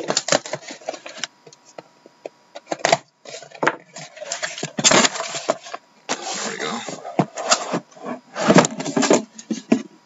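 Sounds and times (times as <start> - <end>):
card packs knocking and rustling: 0.0 - 1.2, 2.6 - 9.9.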